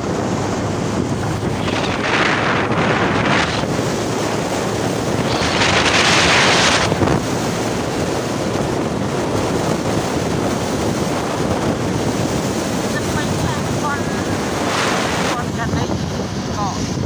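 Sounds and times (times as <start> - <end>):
road rumble: 0.0 - 17.0
wind buffeting microphone: 0.0 - 17.0.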